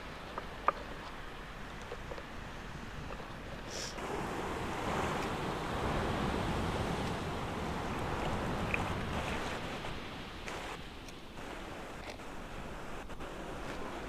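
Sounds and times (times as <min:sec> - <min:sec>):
ocean surf washing in shallows: 0:00.0 - 0:14.0.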